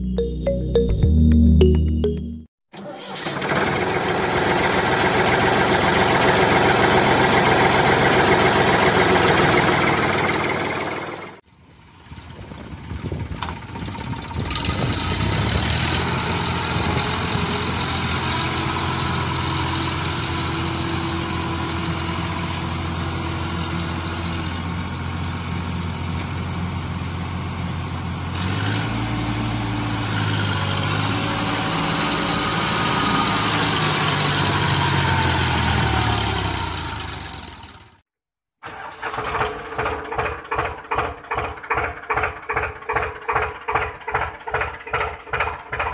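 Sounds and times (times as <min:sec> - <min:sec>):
tractor engine running: 0:02.8 - 0:11.4, 0:12.1 - 0:38.0, 0:38.6 - 0:45.9.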